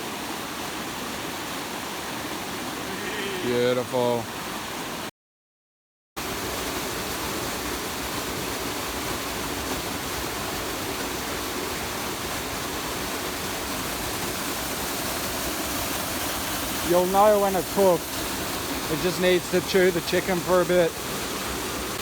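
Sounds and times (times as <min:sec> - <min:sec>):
waterfall roar: 0:00.1 - 0:05.0, 0:06.2 - 0:22.0.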